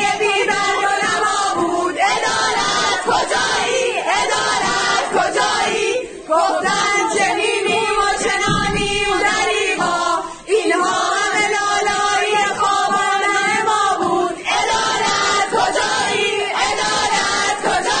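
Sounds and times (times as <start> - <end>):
group singing in unison: 0.0 - 18.0.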